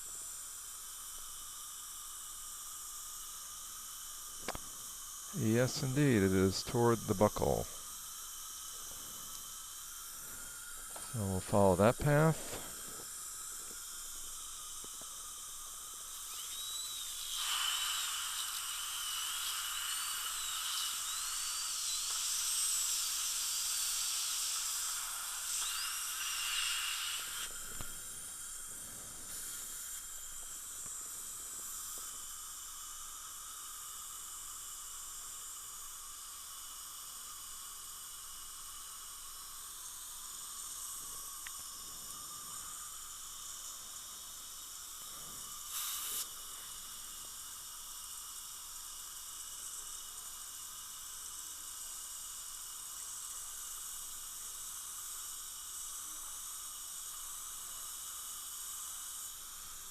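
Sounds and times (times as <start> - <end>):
dental drill whining: 0.0 - 59.9
steady hiss: 0.0 - 59.9.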